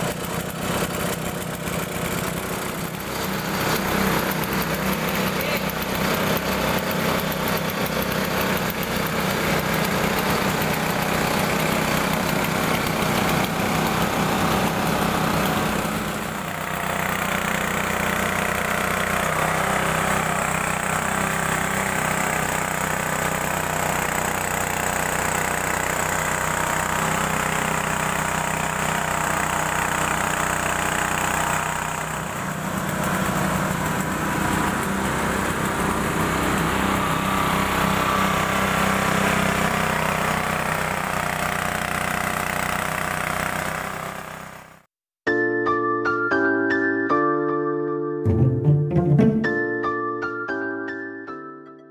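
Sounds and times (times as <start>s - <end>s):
small petrol engine running: 0.0s - 44.9s.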